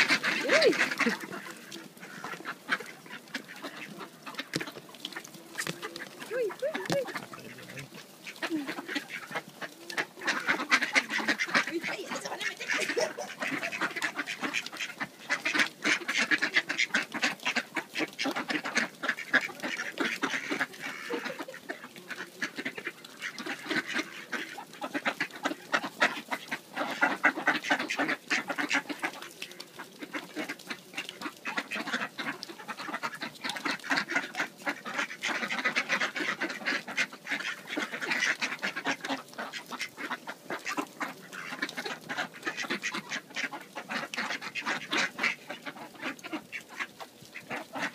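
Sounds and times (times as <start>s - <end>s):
ducks quacking: 0.0s - 47.9s.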